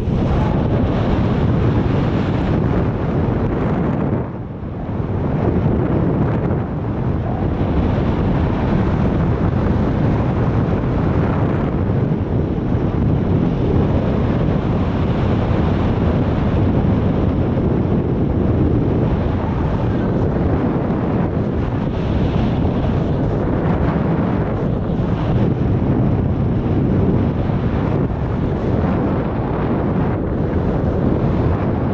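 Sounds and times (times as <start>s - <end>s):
wind noise on microphone: 0.0s - 31.9s.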